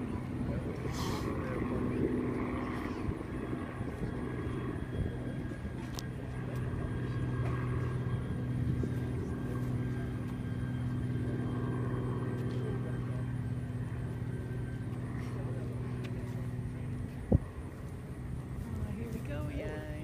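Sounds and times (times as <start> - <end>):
aircraft radial engines droning: 0.0 - 20.0.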